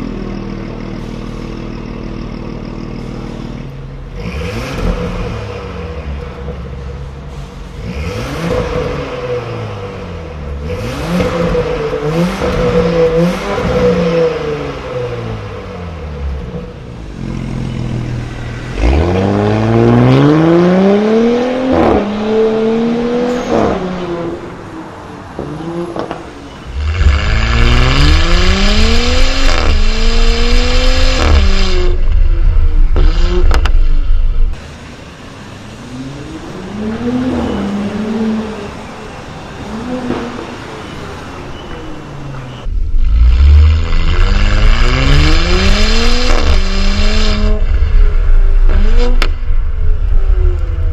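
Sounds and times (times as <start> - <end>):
car engine revving: 3.6 - 40.6, 42.6 - 50.9.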